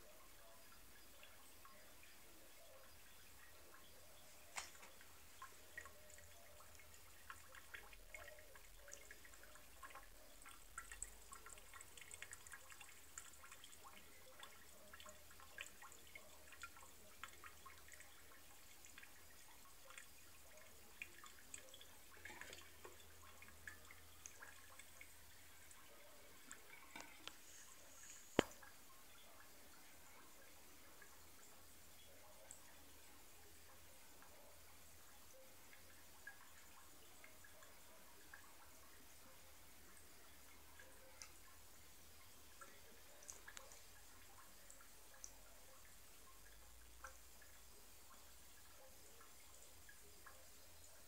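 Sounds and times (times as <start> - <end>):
water dripping into bathtub: 0.1 - 51.0.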